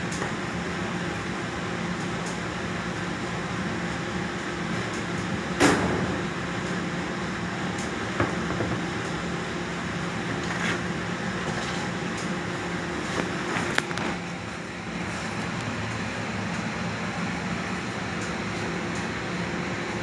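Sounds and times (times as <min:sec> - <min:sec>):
washing machine humming: 0:00.0 - 0:20.0.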